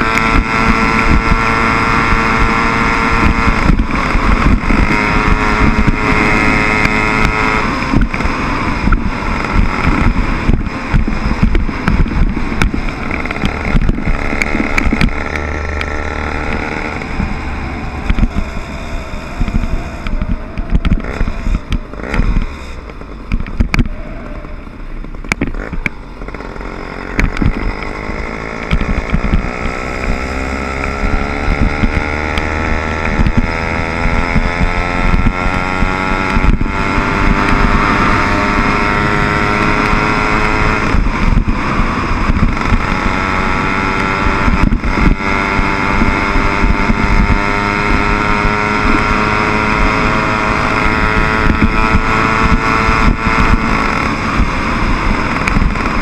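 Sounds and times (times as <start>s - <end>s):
small motorbike engine revving: 0.0s - 56.0s.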